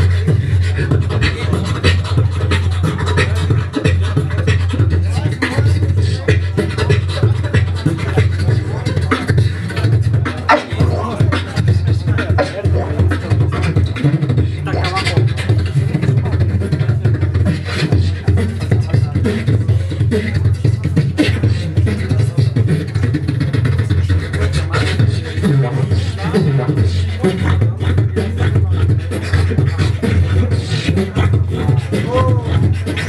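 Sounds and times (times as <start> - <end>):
beatboxing into microphone: 0.0 - 33.0.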